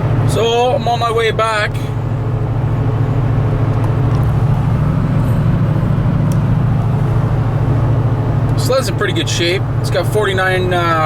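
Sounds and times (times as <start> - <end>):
vehicle cabin road and engine drone: 0.0 - 11.0.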